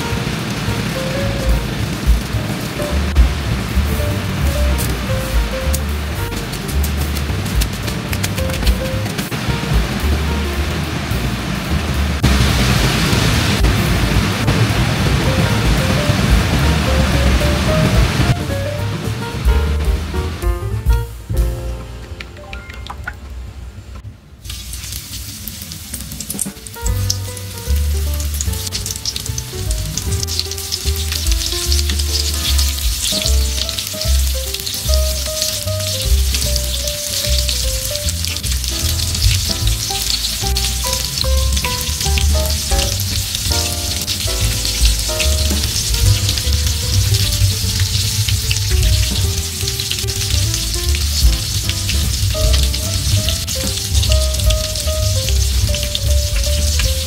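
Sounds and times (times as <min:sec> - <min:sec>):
oil sizzling and popping: 0:00.0 - 0:20.4, 0:24.4 - 0:57.0
background music: 0:00.0 - 0:24.0, 0:26.6 - 0:57.0.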